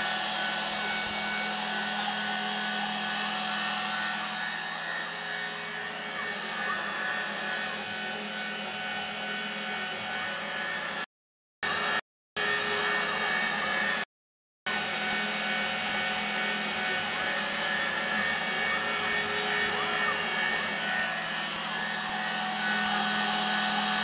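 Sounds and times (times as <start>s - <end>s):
router spindle motor whine: 0.0s - 14.1s, 14.7s - 24.0s.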